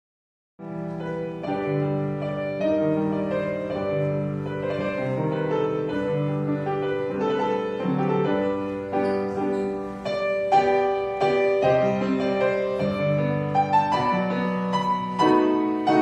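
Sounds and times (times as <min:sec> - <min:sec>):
piano piece: 0:00.6 - 0:16.0.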